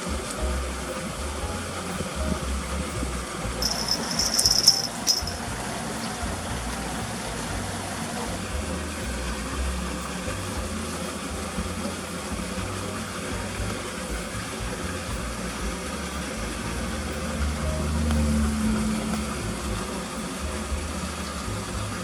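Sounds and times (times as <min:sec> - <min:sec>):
buzzy insect call: 0:00.0 - 0:21.8
low rumble: 0:00.0 - 0:22.0.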